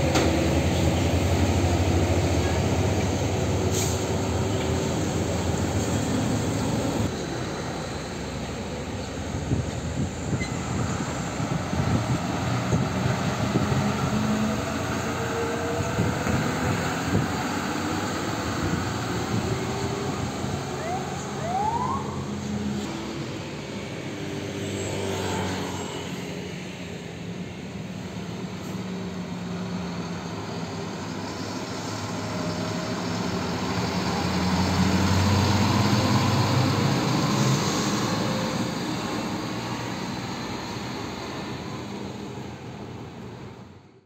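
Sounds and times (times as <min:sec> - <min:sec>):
tyre and road noise: 0:00.0 - 0:43.8
diesel trucks passing: 0:00.0 - 0:44.0.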